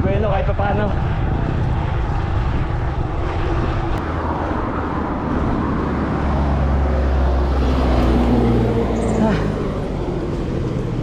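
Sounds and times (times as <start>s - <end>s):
road noise: 0.0s - 11.0s
vehicle engine hum: 0.0s - 11.0s
wind buffeting microphone: 0.0s - 11.0s.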